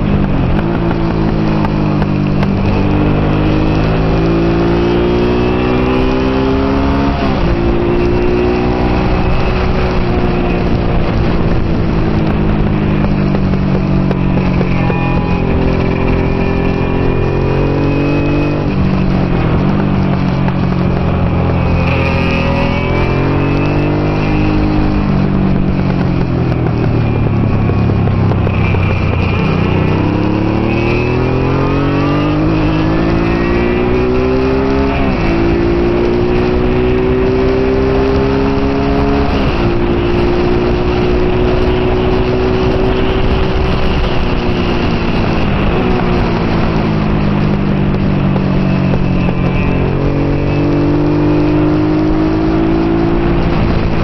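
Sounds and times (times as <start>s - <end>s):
motorcycle engine revving: 0.0s - 54.0s
wind rushing: 0.0s - 54.0s.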